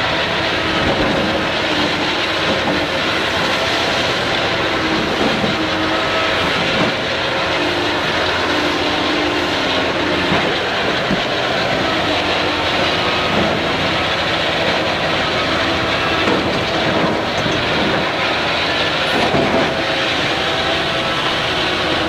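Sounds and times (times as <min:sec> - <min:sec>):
heavy vehicle running: 0:00.0 - 0:22.0.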